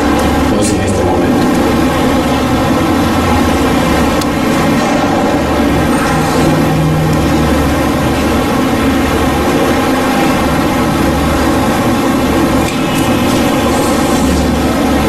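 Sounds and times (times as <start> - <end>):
loud mechanical drone: 0.0 - 15.0.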